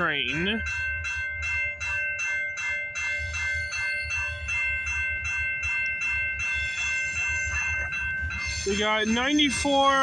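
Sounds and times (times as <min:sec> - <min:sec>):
freight train rumble: 0:00.0 - 0:10.0
railroad crossing bell ringing: 0:00.0 - 0:10.0.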